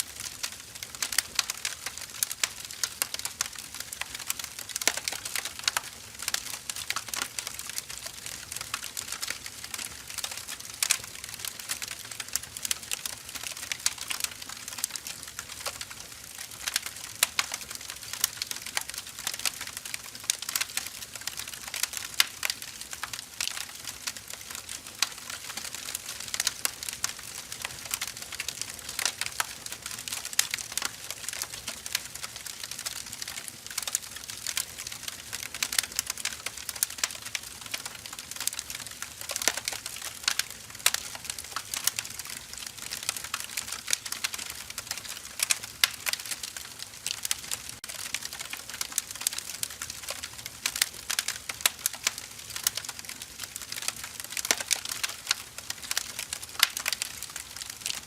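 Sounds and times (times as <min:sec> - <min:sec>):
burning firewood crackling: 0:00.0 - 0:58.0.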